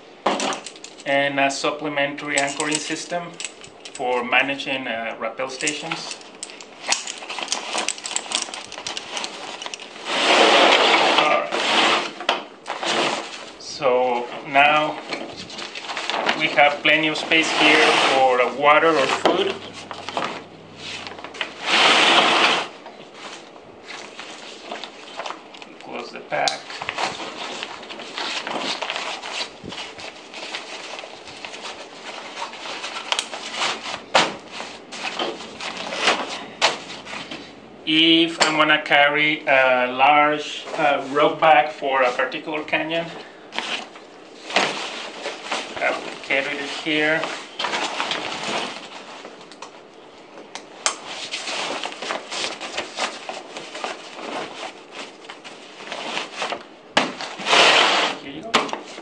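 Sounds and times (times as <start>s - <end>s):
stiff fabric crinkling and rustling: 5.5s - 37.7s, 40.6s - 59.0s.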